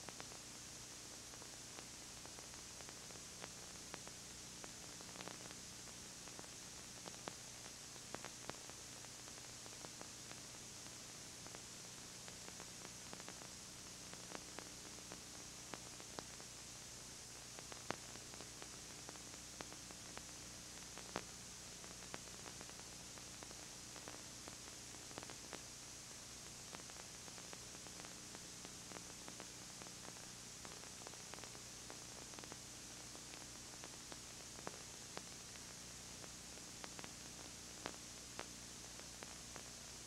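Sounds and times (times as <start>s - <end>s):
videotape hiss: 0.0s - 40.0s.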